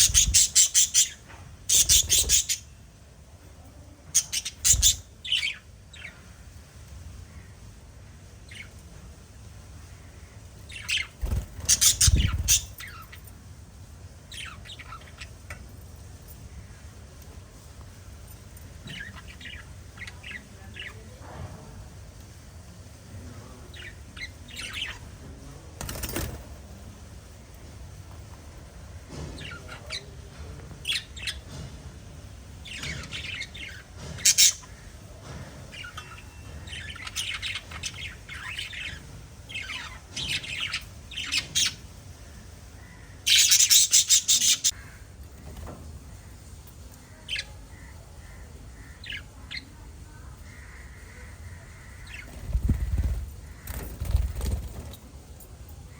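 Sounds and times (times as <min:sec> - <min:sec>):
parrots chirping and chattering: 0:00.0 - 0:03.2, 0:04.0 - 0:21.4, 0:23.1 - 0:26.5, 0:27.6 - 0:55.1.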